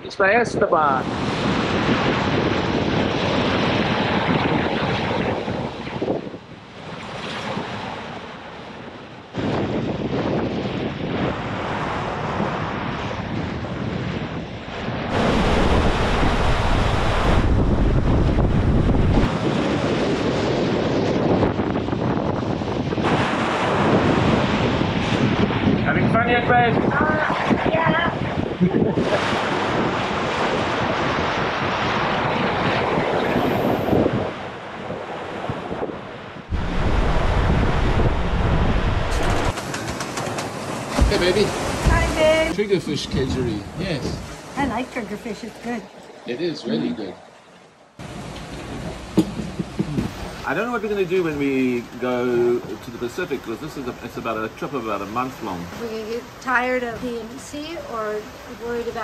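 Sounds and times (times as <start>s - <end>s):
wind buffeting the microphone: 0.0s - 45.8s, 48.0s - 59.0s
water churning along a hull: 0.0s - 59.0s
sea rushing past a boat: 0.3s - 59.0s.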